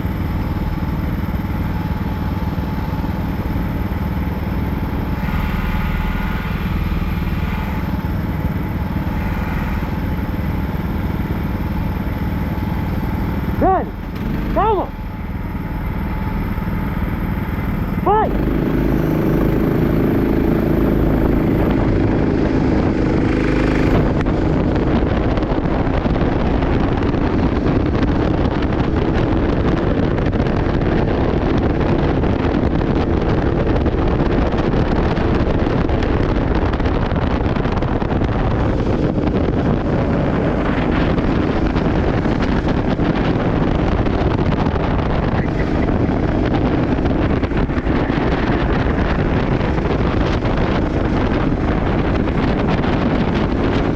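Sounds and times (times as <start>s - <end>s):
kart engine running: 0.0s - 53.9s
wind buffeting microphone: 0.0s - 53.9s.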